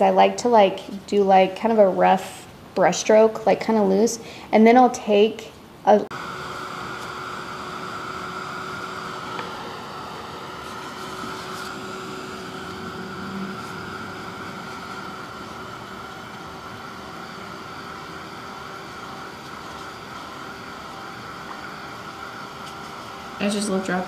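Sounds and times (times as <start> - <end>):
ventilation hum and hiss: 0.0 - 24.0.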